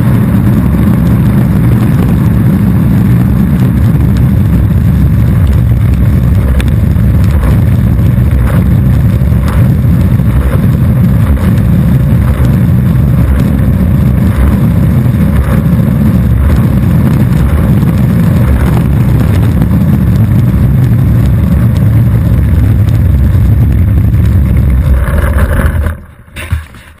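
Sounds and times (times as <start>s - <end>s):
skateboard wheels rumbling on asphalt: 0.0s - 27.0s.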